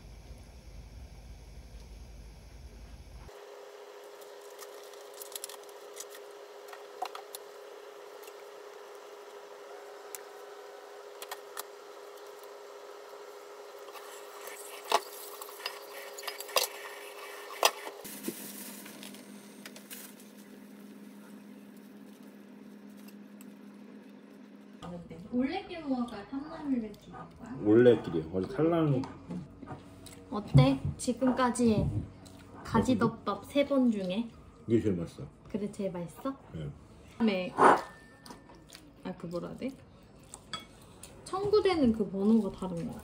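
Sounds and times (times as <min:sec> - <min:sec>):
steady hum: 0:00.0 - 0:38.4.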